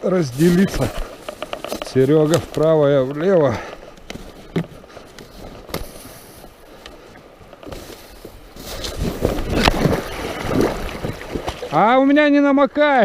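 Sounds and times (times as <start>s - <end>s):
rushing water: 0.0s - 13.0s
footsteps wading over river stones: 0.1s - 12.2s.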